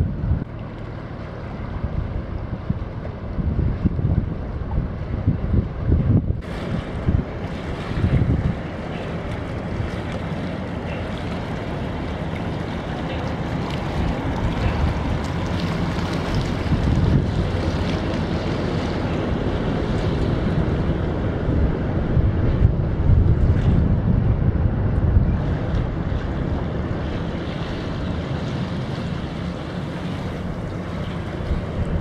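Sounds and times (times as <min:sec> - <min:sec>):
low engine rumble: 0:00.0 - 0:32.0
water rushing along boat hull: 0:00.0 - 0:32.0
wind buffeting microphone: 0:00.0 - 0:32.0.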